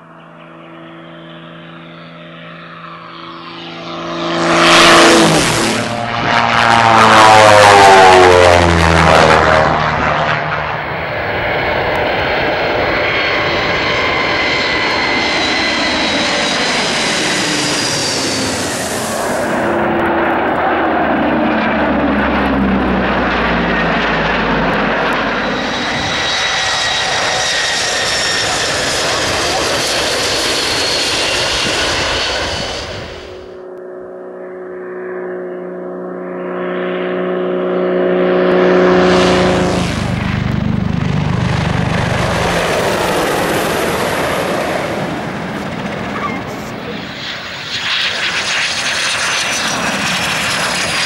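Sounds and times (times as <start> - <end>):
propeller plane droning: 0.0 - 51.0
twin-engine plane fly-by: 0.0 - 51.0.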